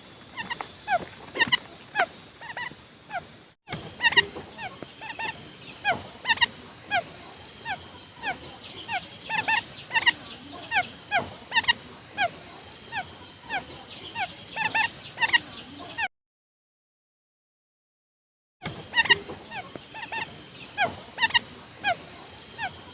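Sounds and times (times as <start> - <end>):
quail calling: 0.3 - 16.1, 18.7 - 22.9.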